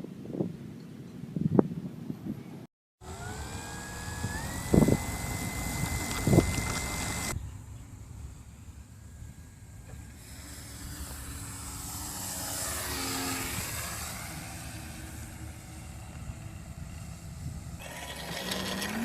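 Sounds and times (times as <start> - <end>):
model airplane motor whine: 3.0 - 19.0.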